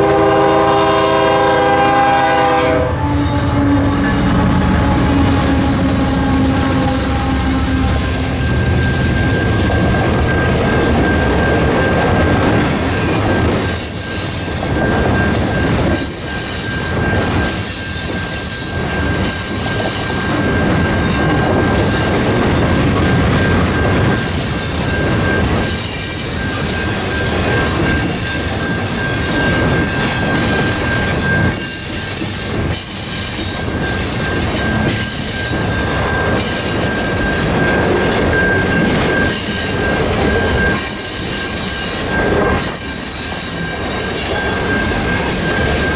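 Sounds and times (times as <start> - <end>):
steady high-pitched tone: 2.8 - 45.9
freight train wheels clattering: 3.5 - 45.9.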